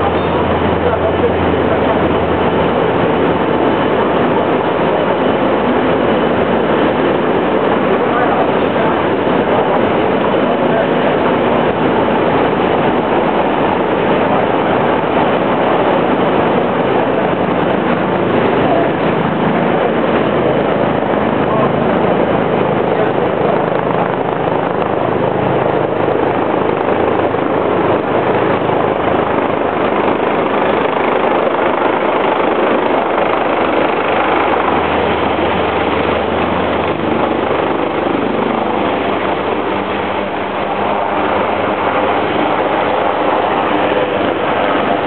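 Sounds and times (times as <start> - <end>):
ferry engine drone: 0.0 - 45.0
rushing water: 0.0 - 45.0
rushing wind: 0.0 - 45.0.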